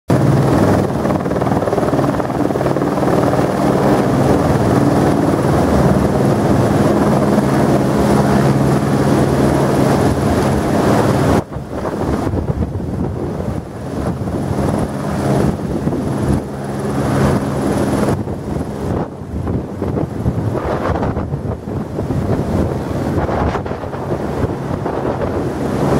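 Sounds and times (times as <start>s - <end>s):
helicopter rotor and engine drone: 0.1s - 25.9s.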